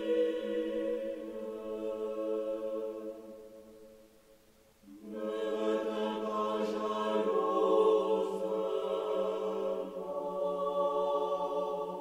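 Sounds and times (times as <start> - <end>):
choir singing a chant: 0.0 - 4.0, 4.8 - 12.0.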